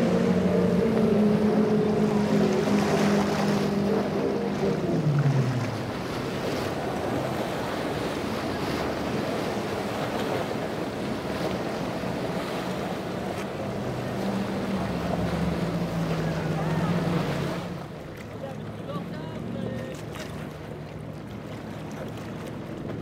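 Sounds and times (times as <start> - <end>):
outboard engines droning: 0.0 - 23.0
rushing water: 0.0 - 23.0.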